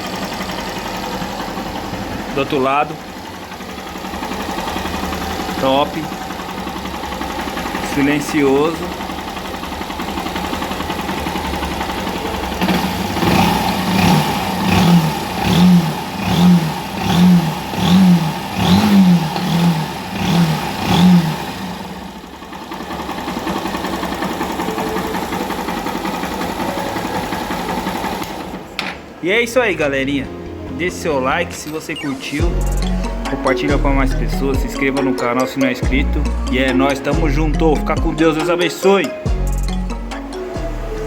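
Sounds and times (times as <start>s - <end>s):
engine idling with throttle blips: 0.0s - 41.0s.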